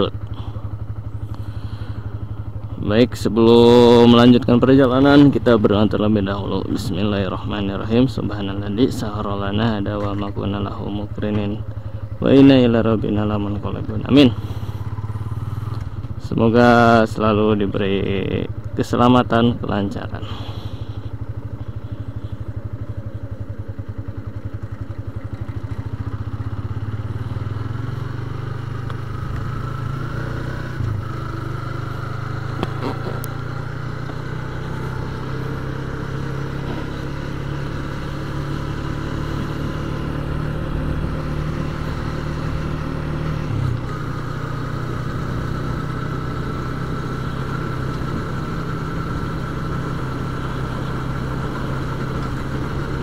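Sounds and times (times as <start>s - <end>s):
motorcycle engine pulling away: 0.0s - 6.2s, 8.7s - 18.8s, 20.2s - 53.0s.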